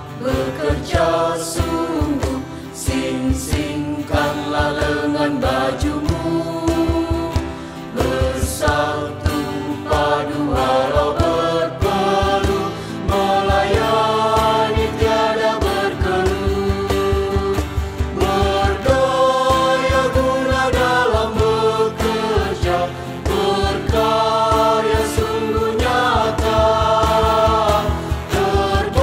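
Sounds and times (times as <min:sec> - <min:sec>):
acoustic guitars: 0:00.0 - 0:29.0
mixed choir singing a march: 0:00.0 - 0:29.0
cajon beat: 0:00.1 - 0:29.0.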